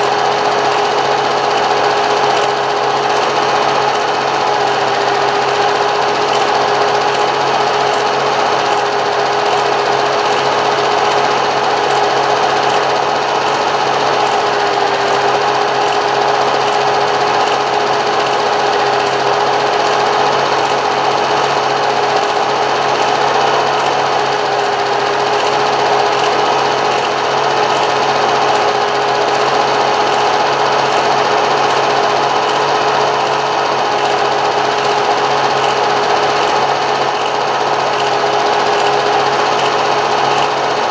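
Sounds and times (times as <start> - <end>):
small machine whirring: 0.0 - 40.9.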